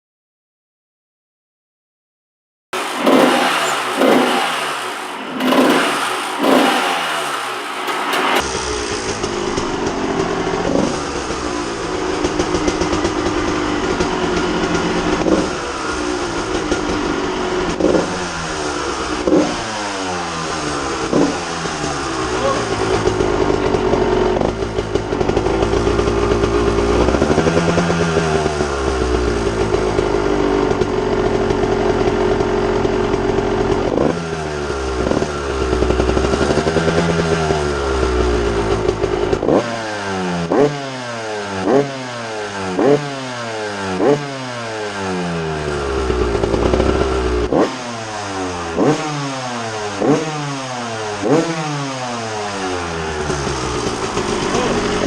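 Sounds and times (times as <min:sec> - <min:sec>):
motocross engine revving: 0:02.8 - 0:55.0.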